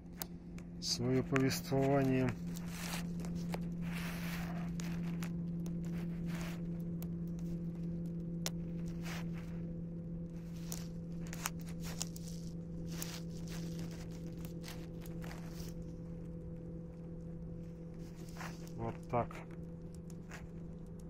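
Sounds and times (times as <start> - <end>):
campfire crackling and popping: 0.0 - 21.0
steady low hum: 0.0 - 21.0.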